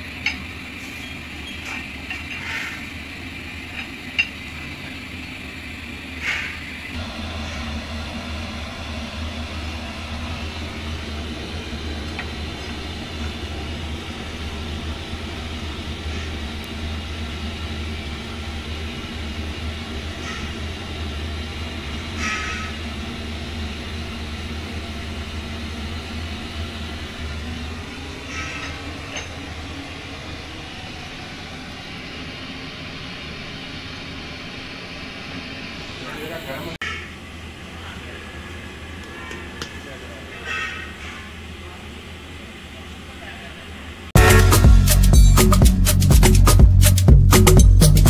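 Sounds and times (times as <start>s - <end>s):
low mechanical hum: 0.0s - 44.6s.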